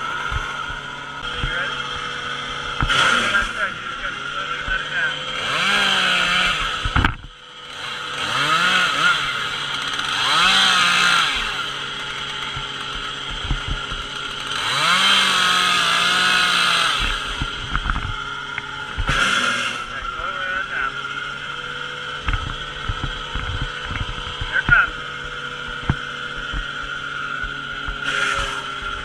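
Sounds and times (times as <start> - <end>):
chainsaw engine revving: 0.0 - 29.0.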